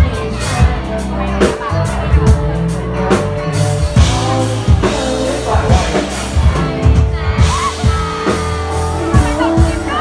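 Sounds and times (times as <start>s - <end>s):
drum kit beat: 0.0s - 10.0s
live rock band playing: 0.0s - 10.0s
person singing: 0.0s - 10.0s.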